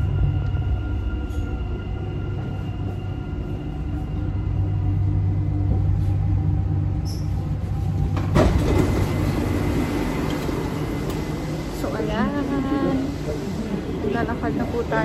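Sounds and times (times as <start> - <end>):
train motor hum: 0.0 - 15.0.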